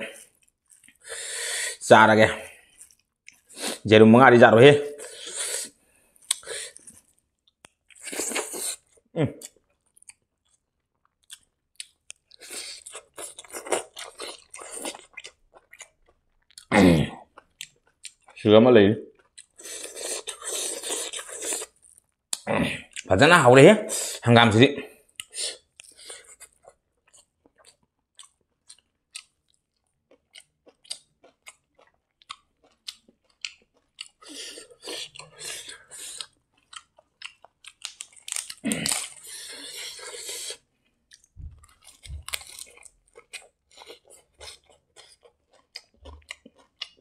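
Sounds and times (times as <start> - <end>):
wet chewing and lip smacking: 0.2 - 1.0, 2.7 - 3.8, 5.0 - 16.7, 17.3 - 18.4, 19.1 - 23.1, 25.1 - 47.0.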